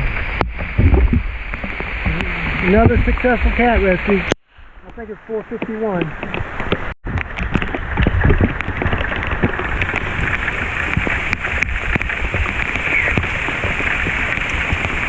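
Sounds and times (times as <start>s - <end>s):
heavy rain pouring: 0.0s - 15.0s
raindrops hitting close by: 0.0s - 15.0s.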